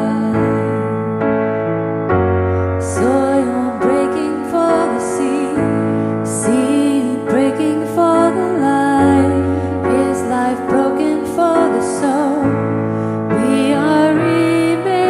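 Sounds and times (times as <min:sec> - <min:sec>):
women singing worship song: 0:00.0 - 0:00.9, 0:02.8 - 0:12.6, 0:13.2 - 0:15.0
piano chords: 0:00.0 - 0:15.0.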